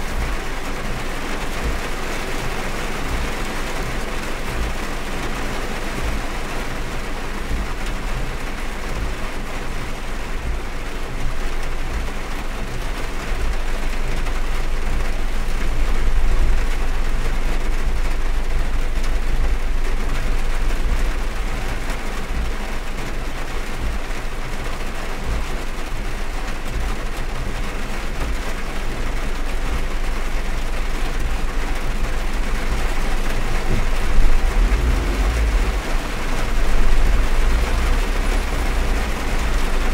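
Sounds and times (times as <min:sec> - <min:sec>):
heavy rain on a car: 0:00.0 - 0:39.9
low car rumble: 0:00.0 - 0:39.9.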